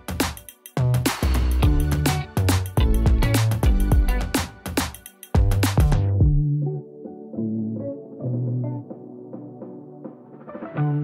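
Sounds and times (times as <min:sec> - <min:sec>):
slow melodic background music: 0:00.0 - 0:11.0.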